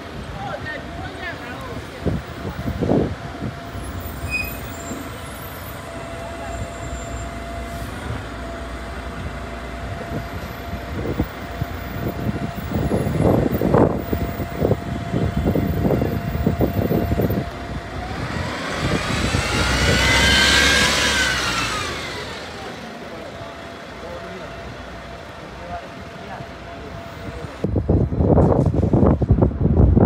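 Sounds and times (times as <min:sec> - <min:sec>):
bus driving past: 0:00.0 - 0:29.0
road traffic: 0:00.0 - 0:30.0
vehicle whine rising in pitch: 0:02.8 - 0:27.8.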